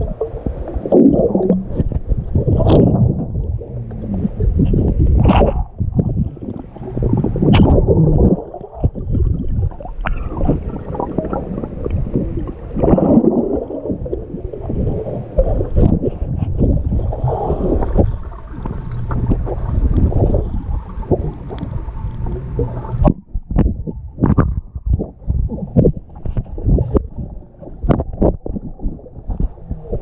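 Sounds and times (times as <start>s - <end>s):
pool water splashing and churning: 0.0s - 30.0s.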